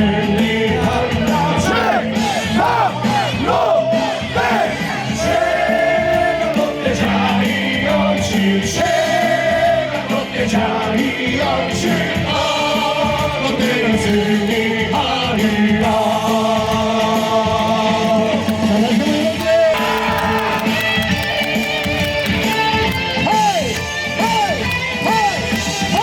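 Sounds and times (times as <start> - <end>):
cheer song over stadium speakers: 0.0 - 26.0
crowd singing: 0.0 - 26.0.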